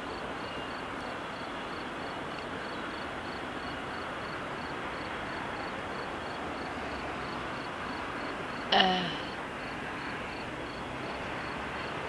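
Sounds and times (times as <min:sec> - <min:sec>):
rushing outdoor noise: 0:00.0 - 0:12.0.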